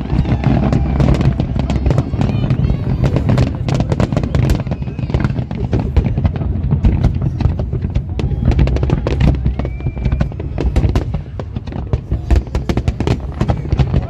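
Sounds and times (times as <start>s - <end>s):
fireworks bangs and crackles: 0.0s - 14.0s
low booming rumble: 0.0s - 14.0s.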